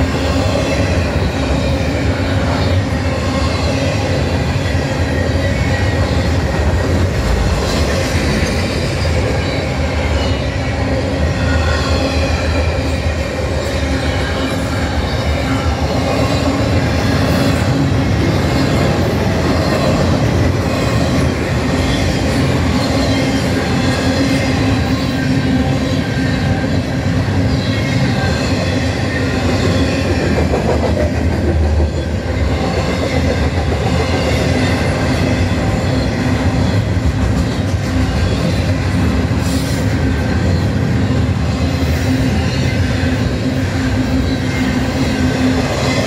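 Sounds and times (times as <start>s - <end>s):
freight train wheels rumbling on rails: 0.0s - 46.0s.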